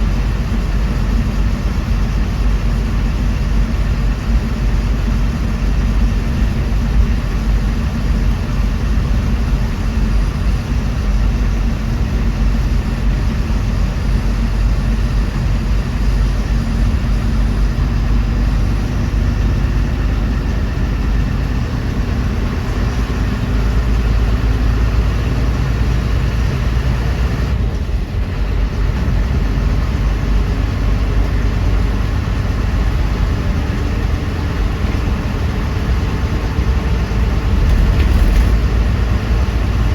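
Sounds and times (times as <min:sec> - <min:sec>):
bus engine rumble: 0:00.0 - 0:39.9
road noise: 0:00.0 - 0:39.9.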